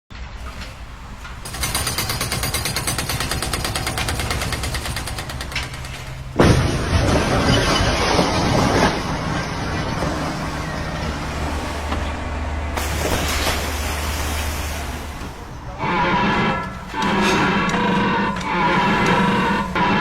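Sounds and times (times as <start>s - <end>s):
machinery rattling hammer: 0.4s - 13.8s, 15.2s - 20.0s.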